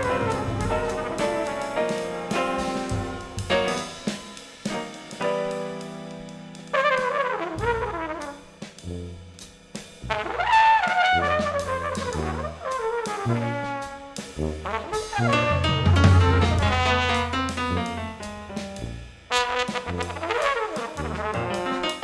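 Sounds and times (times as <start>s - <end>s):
low tuba notes: 0.0s - 4.1s, 6.7s - 9.4s, 10.0s - 22.0s
drum hits: 0.0s - 13.2s, 13.8s - 22.0s
jazz brass ensemble playing: 0.0s - 22.0s.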